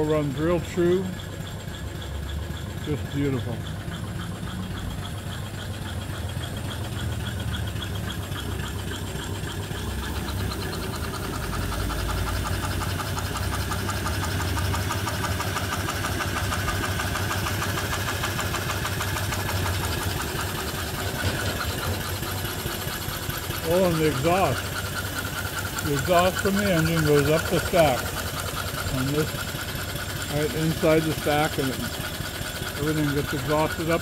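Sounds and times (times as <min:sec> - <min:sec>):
steam engine running: 0:00.0 - 0:34.0.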